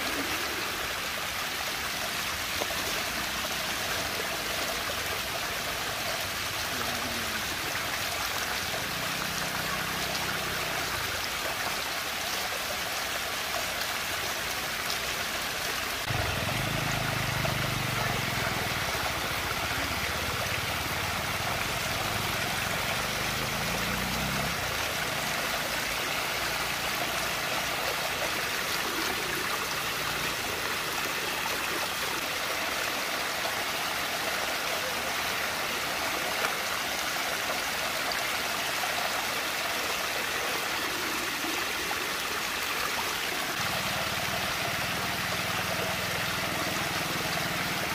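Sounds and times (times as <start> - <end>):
water rushing in whirlpool: 0.0 - 47.9.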